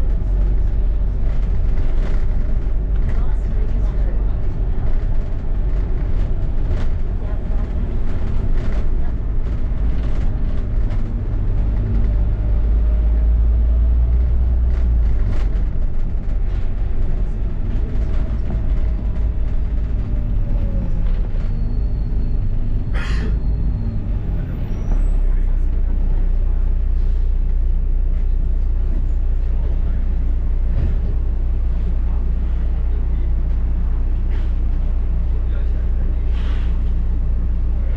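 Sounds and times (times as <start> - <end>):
bus engine low rumble: 0.0 - 37.9.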